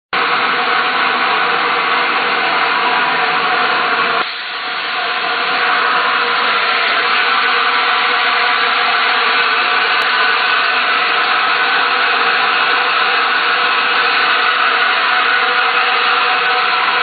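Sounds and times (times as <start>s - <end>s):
machine running with hiss and hum: 0.2s - 17.0s.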